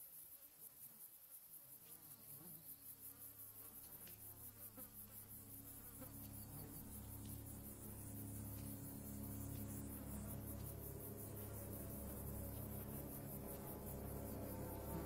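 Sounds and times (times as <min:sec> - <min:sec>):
flies buzzing faintly: 0:00.0 - 0:15.0
high pulsing insect chorus: 0:00.0 - 0:15.0
low steady hum: 0:02.9 - 0:15.0.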